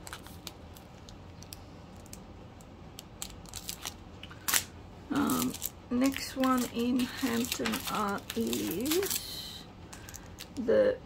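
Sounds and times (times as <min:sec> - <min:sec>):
plastic packaging clicking: 0:00.0 - 0:09.2.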